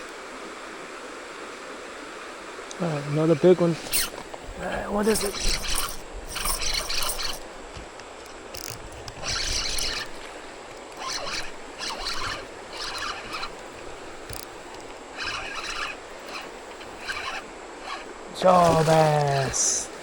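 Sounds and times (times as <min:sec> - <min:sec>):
creek hiss: 0:00.0 - 0:20.0
fishing reel ticking: 0:03.8 - 0:20.0.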